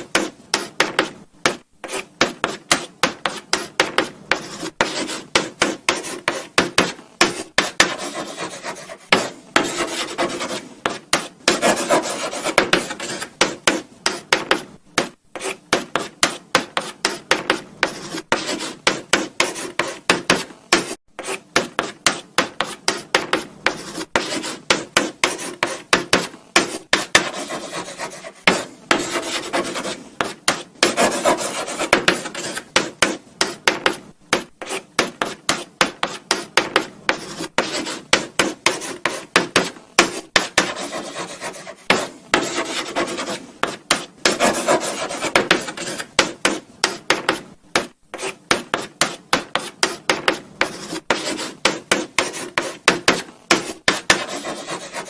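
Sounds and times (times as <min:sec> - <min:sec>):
chalk scratching on blackboard: 0:00.0 - 0:55.0
chalk tapping on board: 0:00.0 - 0:55.0.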